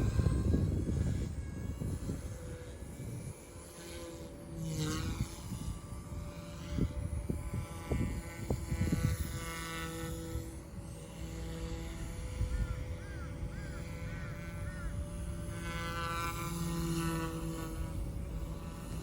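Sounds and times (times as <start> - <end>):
rc helicopter motor whining: 0.0 - 19.0
wind buffeting microphone: 0.0 - 19.0.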